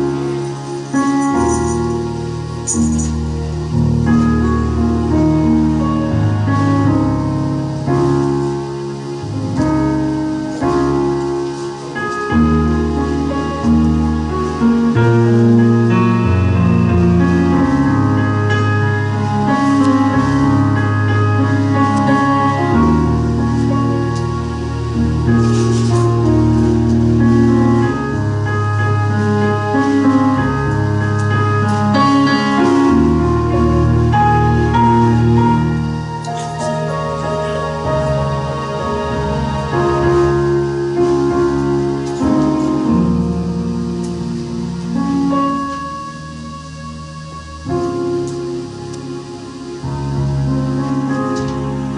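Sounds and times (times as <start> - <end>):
keyboard playing chords: 0.0 - 51.9.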